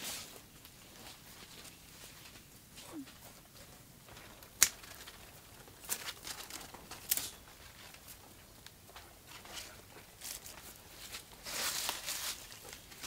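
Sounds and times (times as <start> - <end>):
vines and leaves rustling: 0.0 - 13.0.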